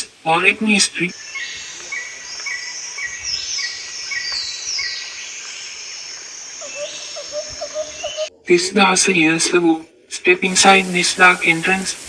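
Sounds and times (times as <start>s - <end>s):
falling whistled bird calls: 0.0s - 8.3s, 10.4s - 12.0s
high drone of insects: 0.0s - 8.5s, 10.4s - 12.0s.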